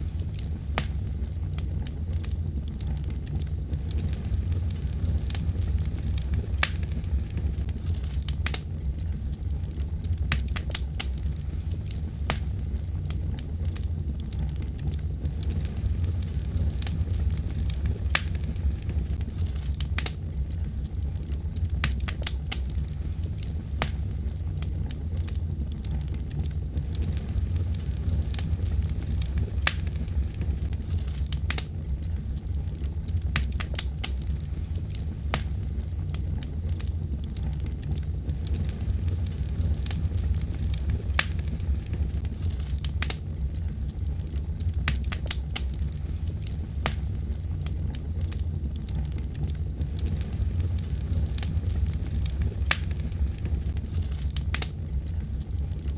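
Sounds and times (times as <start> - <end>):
burning wood popping and crackling: 0.0 - 55.9
low rumble of flame: 0.0 - 55.9.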